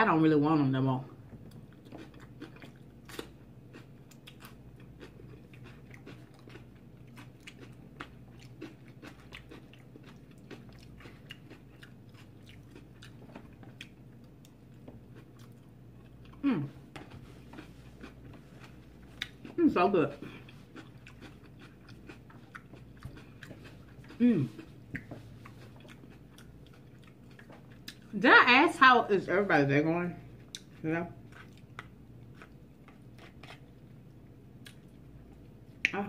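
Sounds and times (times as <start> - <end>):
person chewing: 1.3 - 19.6, 20.2 - 28.1, 30.3 - 35.9.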